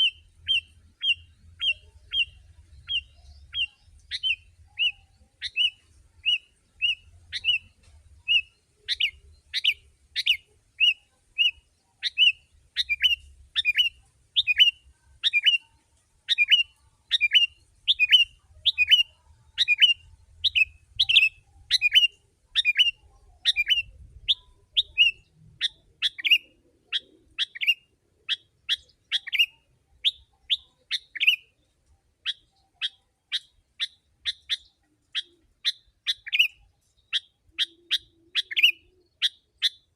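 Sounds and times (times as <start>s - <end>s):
bulbul chirping: 0.0s - 15.6s, 16.3s - 31.5s, 32.2s - 39.9s.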